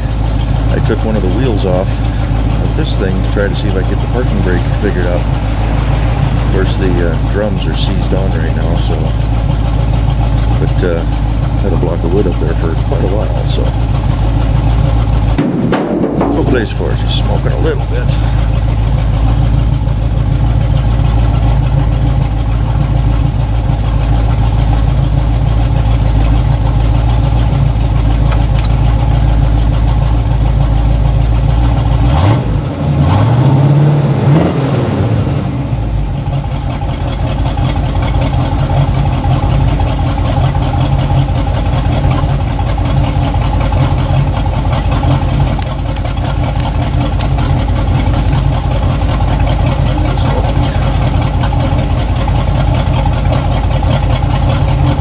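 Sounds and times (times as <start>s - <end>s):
engine revving: 0.0s - 30.3s, 31.2s - 55.0s
pickup engine idling: 0.0s - 55.0s.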